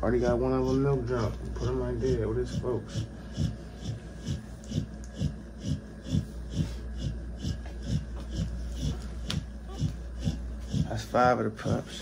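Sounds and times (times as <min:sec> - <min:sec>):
dog panting: 0:00.0 - 0:12.0
low hum: 0:00.0 - 0:12.0.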